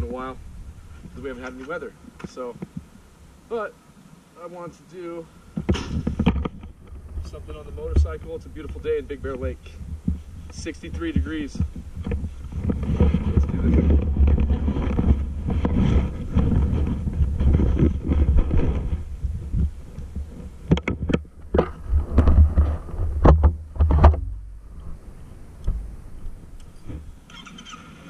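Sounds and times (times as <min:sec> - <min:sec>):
wind rumble on microphone: 0:00.0 - 0:01.9, 0:05.6 - 0:28.0.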